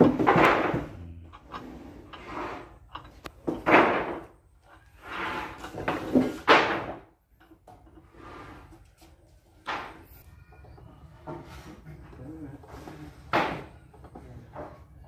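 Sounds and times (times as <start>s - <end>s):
metal spanners clunking and scraping: 0.0s - 15.0s.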